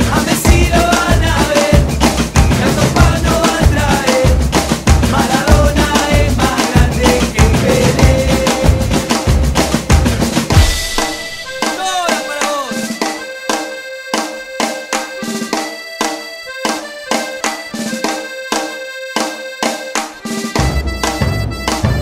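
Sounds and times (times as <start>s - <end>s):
music with steady beat: 0.0s - 22.0s.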